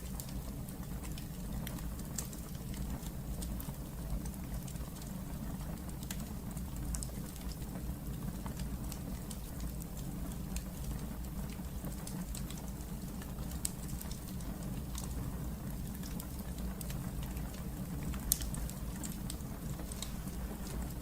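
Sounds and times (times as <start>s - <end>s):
fire crackles and pops: 0.0s - 21.0s
fire rumbling in a fireplace: 0.0s - 21.0s.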